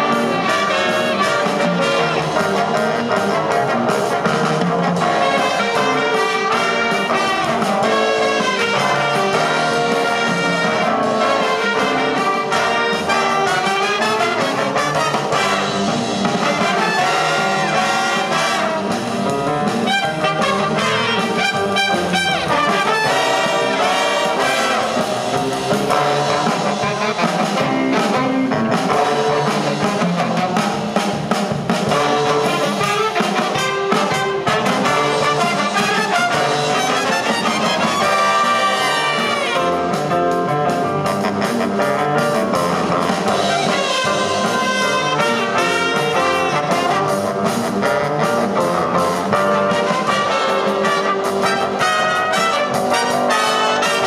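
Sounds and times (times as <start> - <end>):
jazz big band playing: 0.0 - 54.0.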